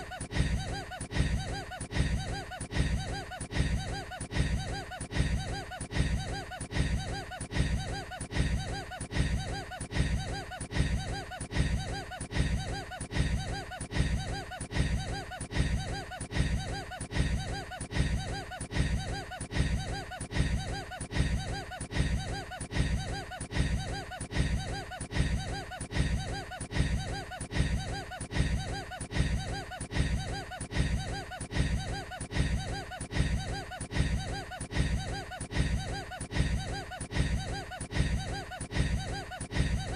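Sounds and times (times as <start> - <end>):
man laughing: 0.0 - 39.9.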